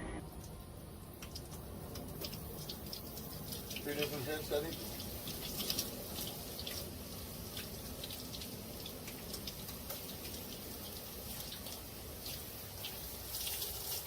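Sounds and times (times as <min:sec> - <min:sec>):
water splashes and drips: 0:00.2 - 0:14.0
water spraying from shower head: 0:00.4 - 0:14.0.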